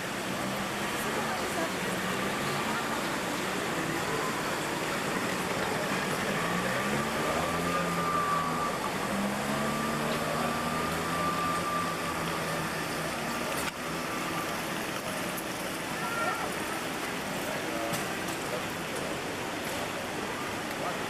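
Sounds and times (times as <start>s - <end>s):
people in a square: 0.0s - 21.0s
traffic hum: 0.0s - 21.0s.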